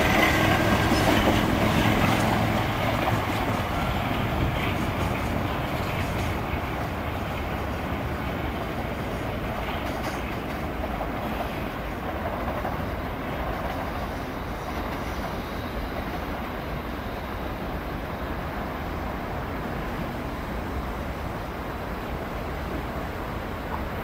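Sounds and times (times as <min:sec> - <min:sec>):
electric train running on track: 0:00.0 - 0:24.0.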